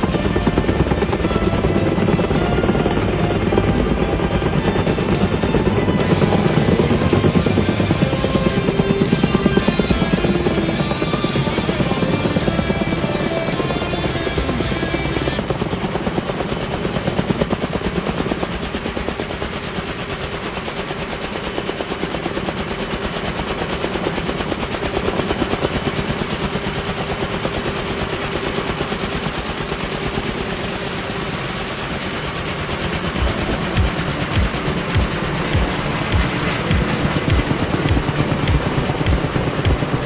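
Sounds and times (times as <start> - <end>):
helicopter rotor beating: 0.0 - 40.0.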